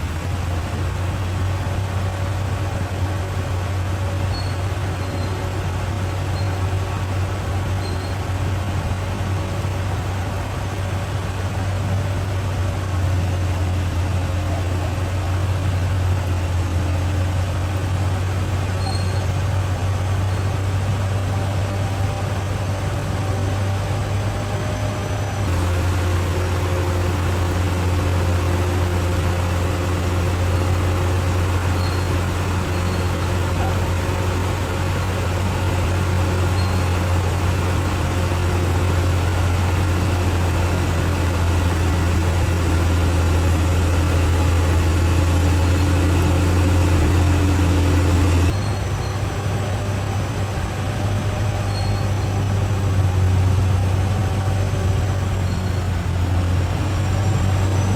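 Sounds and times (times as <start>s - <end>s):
bulldozer diesel engine droning: 0.0s - 57.9s.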